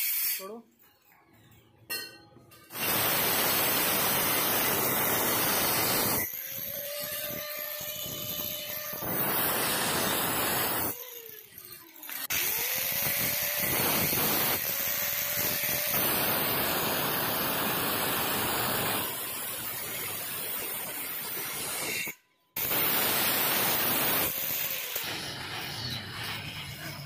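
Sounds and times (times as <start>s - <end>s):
angle grinder cutting steel: 2.7s - 27.0s.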